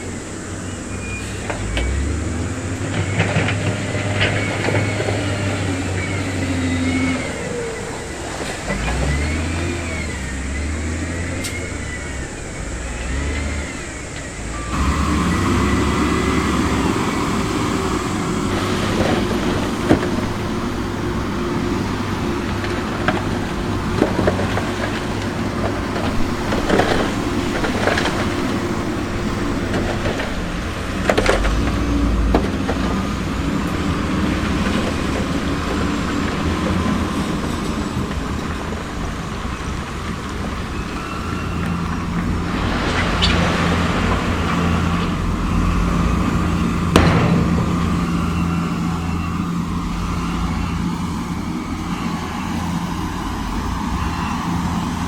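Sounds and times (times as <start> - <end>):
diesel construction machinery revving: 0.0 - 55.0.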